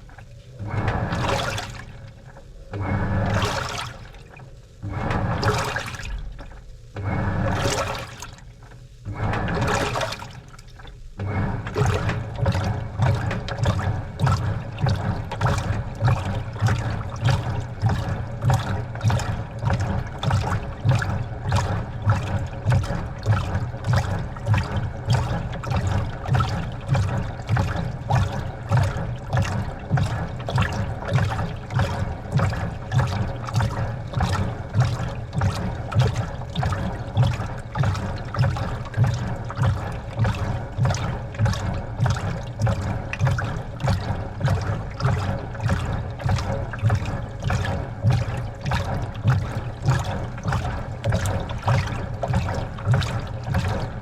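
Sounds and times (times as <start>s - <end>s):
washing machine water sloshing: 0.0s - 54.0s.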